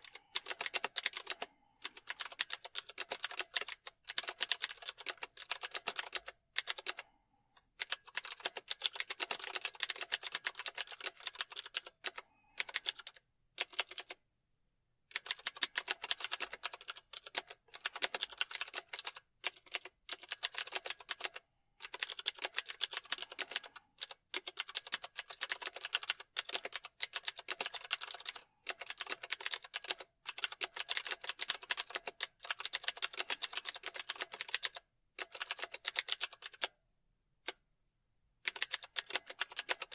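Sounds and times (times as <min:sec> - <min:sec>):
typing on computer keyboard: 0:00.0 - 0:07.1, 0:07.7 - 0:14.2, 0:15.1 - 0:36.8, 0:38.4 - 0:39.9.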